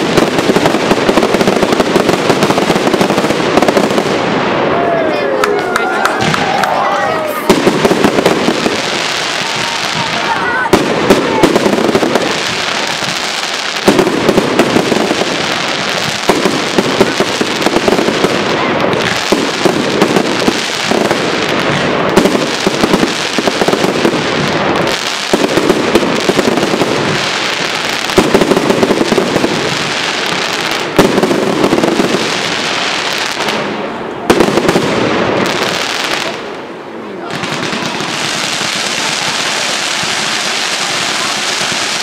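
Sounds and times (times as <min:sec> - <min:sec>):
fireworks crackling: 0:00.0 - 0:42.0.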